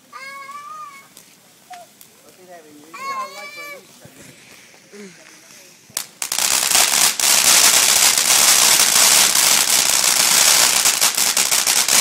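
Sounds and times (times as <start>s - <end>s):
firework fountain crackling: 0.0s - 12.0s.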